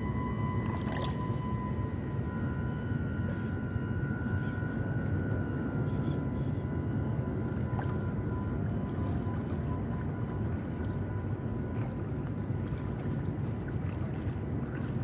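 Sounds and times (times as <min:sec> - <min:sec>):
model boat motor whine: 0:00.0 - 0:15.0.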